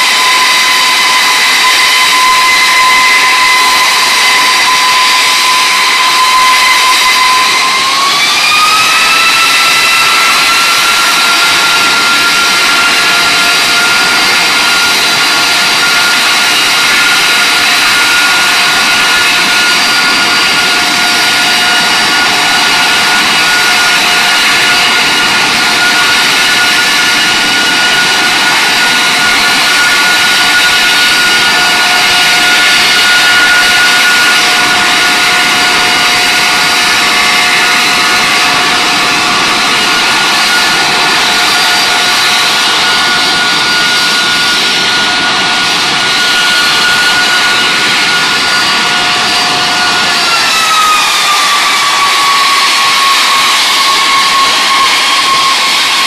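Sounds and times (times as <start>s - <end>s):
jet engine roaring with whine: 0.0s - 56.0s.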